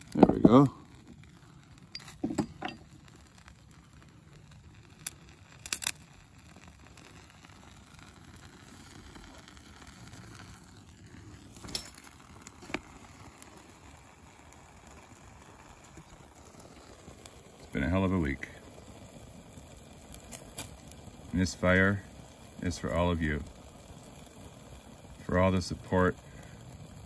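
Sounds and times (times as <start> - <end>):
fire crackling: 0.0 - 27.0
low steady hiss: 0.0 - 27.0.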